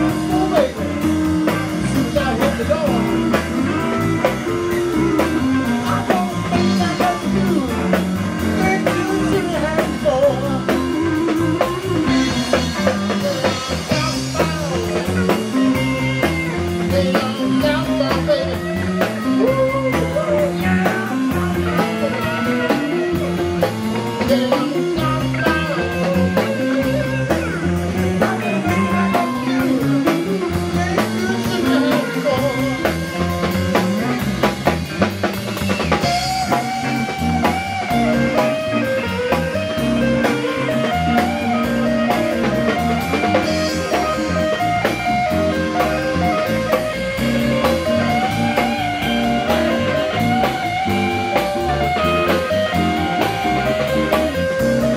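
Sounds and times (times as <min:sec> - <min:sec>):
held wavering guitar notes: 0:00.0 - 0:54.9
rock band playing: 0:00.0 - 0:54.9.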